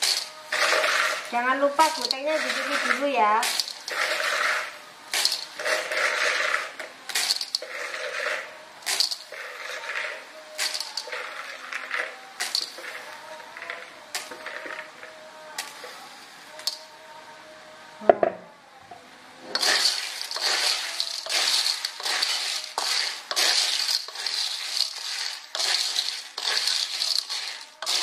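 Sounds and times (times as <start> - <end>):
shells clattering on metal wok: 0.0 - 15.0, 16.6 - 16.9, 19.6 - 28.0
sizzling in hot paste: 0.0 - 15.0, 19.5 - 28.0.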